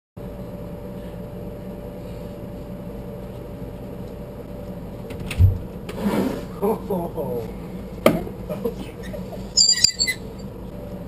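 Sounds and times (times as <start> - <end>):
low machine hum: 0.2 - 11.0.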